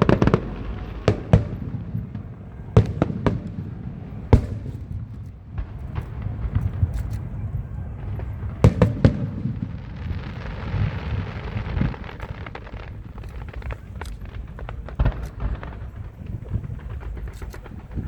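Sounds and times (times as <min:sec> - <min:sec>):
firework bangs: 0:00.0 - 0:18.0
firework crackling hiss: 0:00.0 - 0:18.0.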